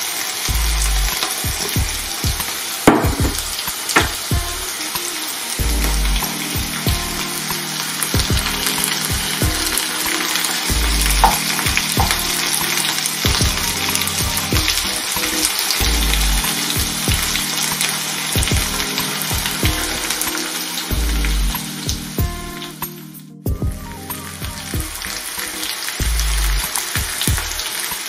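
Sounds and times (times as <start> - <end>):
vegetables sizzling in oil: 0.0 - 22.2, 24.2 - 28.0.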